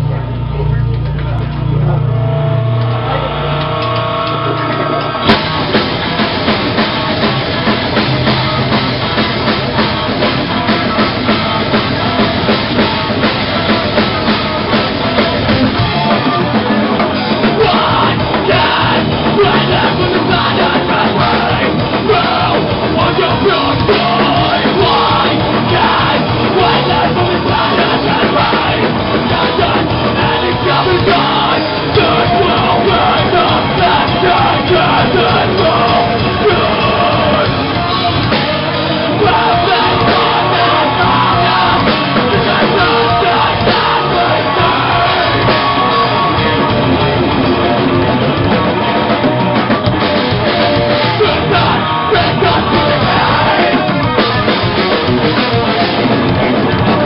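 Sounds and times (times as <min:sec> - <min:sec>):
heavy rock band playing: 0:00.0 - 0:57.0.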